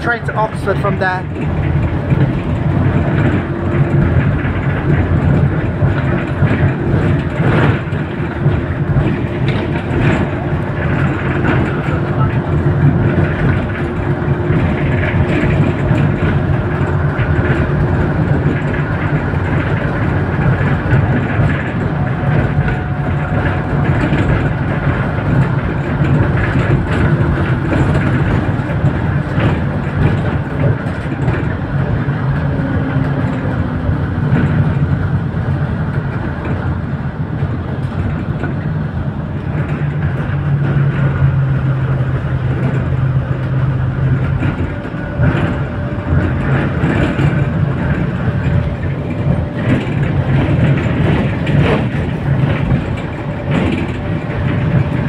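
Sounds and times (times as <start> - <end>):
bus engine running: 0.0 - 55.0
tyre and road noise: 0.0 - 55.0.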